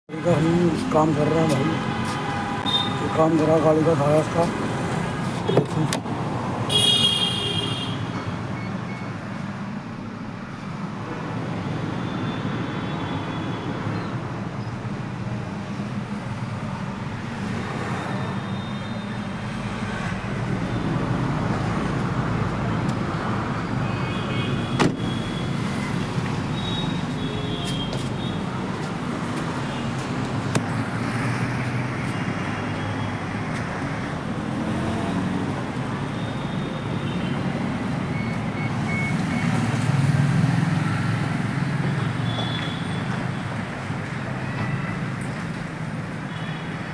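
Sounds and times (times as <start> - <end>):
road traffic noise: 0.1 - 46.9.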